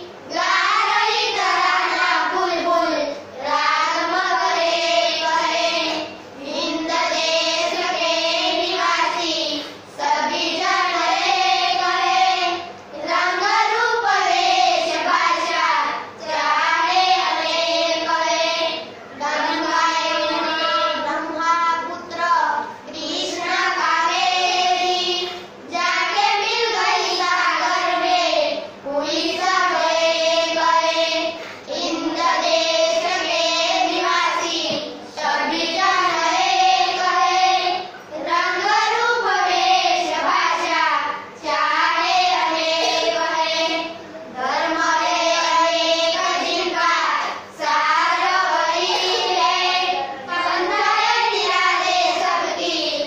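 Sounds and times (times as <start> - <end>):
children singing in unison: 0.0 - 53.0.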